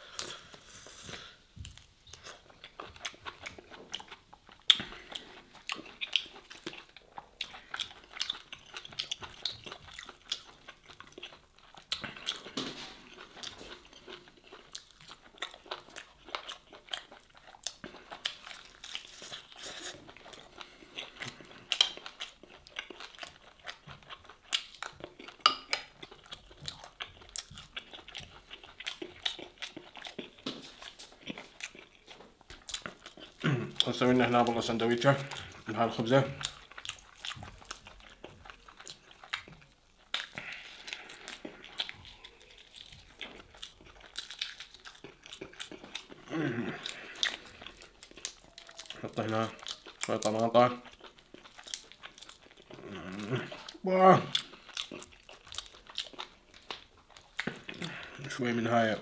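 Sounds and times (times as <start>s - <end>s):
person chewing meat: 0.0s - 59.0s.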